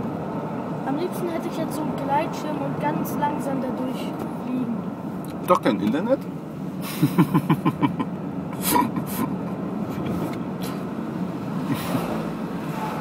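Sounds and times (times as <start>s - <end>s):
car cabin road and engine noise: 0.0s - 13.0s
oncoming car passing: 0.0s - 13.0s.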